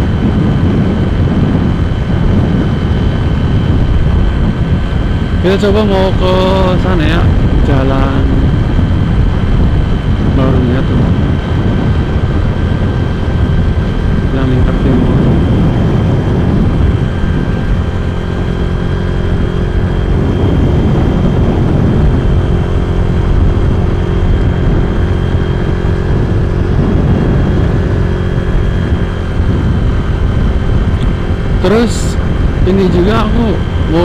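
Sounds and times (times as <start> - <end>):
scooter engine running: 0.0 - 34.0
wind rushing over microphone: 0.0 - 34.0.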